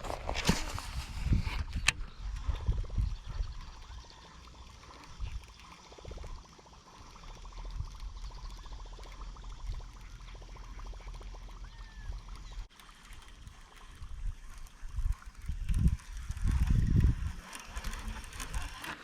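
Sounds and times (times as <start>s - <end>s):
water gurgling and splashing: 0.0s - 19.0s
fishing reel ticking: 0.4s - 19.0s.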